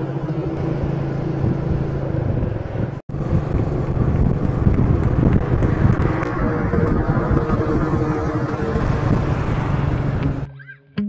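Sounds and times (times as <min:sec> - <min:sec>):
wind rumbling on microphone: 0:00.0 - 0:10.5
motorcycle engine cruising: 0:00.0 - 0:10.7.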